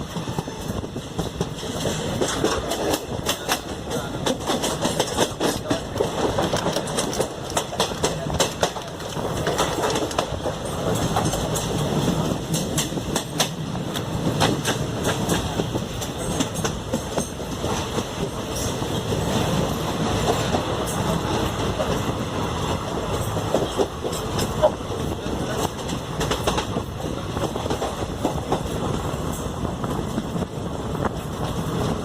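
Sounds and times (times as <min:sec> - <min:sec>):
train rumbling: 0:00.0 - 0:32.0
wheels clattering over rail joints: 0:00.0 - 0:32.0.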